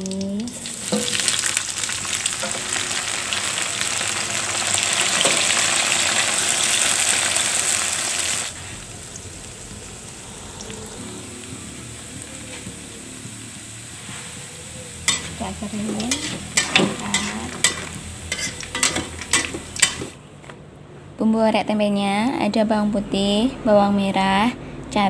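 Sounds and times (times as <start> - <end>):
food sizzling in hot oil: 0.0 - 20.2.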